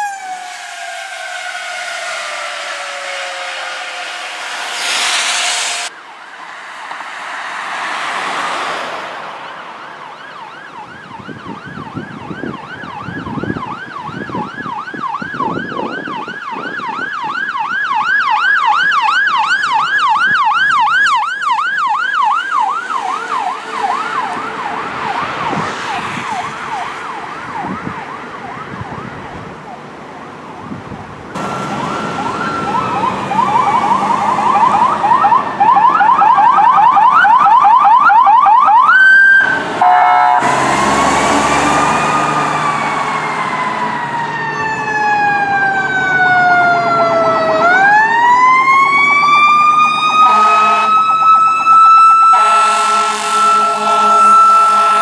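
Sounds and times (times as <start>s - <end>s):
fire truck siren yelping: 0.0s - 8.4s, 9.2s - 55.0s
second siren: 0.0s - 29.8s, 30.5s - 55.0s.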